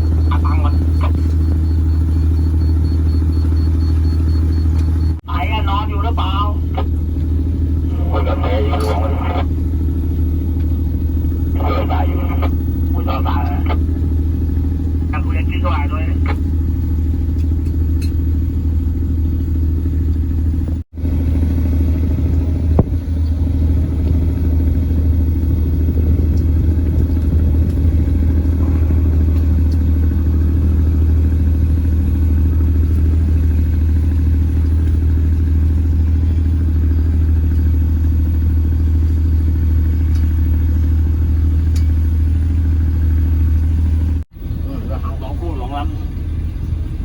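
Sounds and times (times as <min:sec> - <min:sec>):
engine droning steadily: 0:00.0 - 0:47.0.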